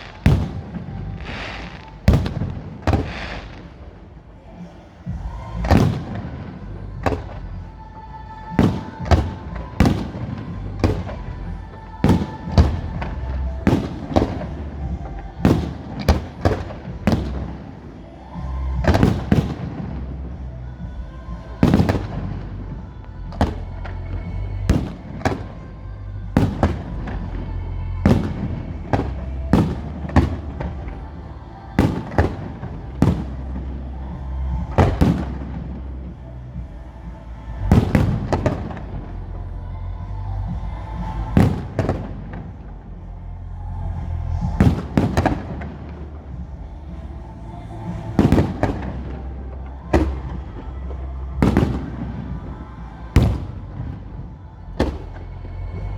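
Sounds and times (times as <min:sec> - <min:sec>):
fireworks bangs: 0:00.0 - 0:25.8, 0:26.4 - 0:39.4, 0:40.5 - 0:42.8, 0:44.0 - 0:55.9
music playing: 0:00.0 - 0:55.9.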